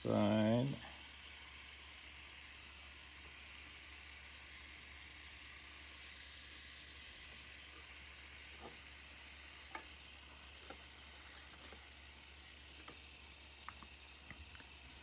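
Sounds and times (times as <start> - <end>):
faint fizz of bubbles: 0.9 - 15.0.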